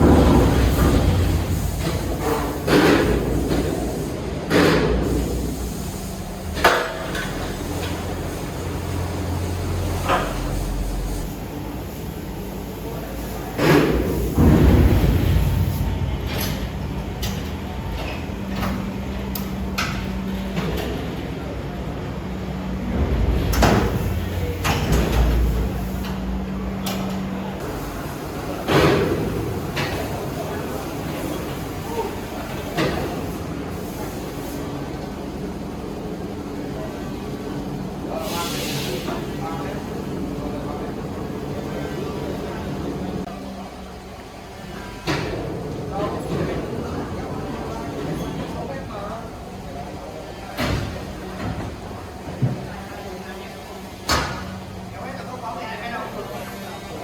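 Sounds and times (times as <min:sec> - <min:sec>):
workshop machinery humming: 0:00.0 - 0:57.0.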